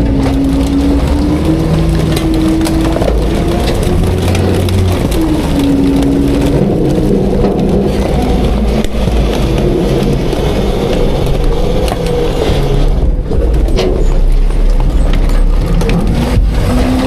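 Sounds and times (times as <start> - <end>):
garbage truck engine rumble: 0.0 - 17.0.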